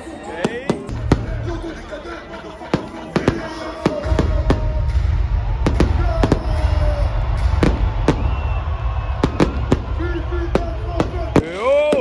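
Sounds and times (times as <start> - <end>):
fireworks bangs: 0.4 - 12.0.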